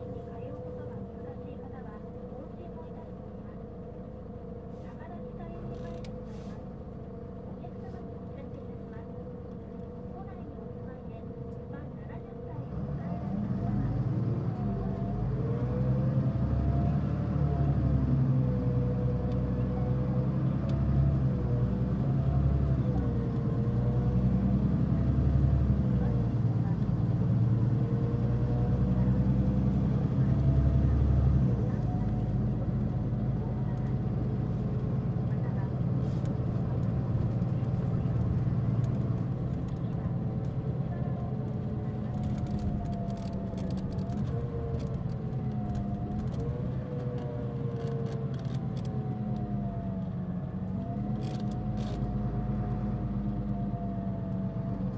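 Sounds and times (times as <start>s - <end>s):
bus diesel engine rumbling: 0.0s - 54.9s.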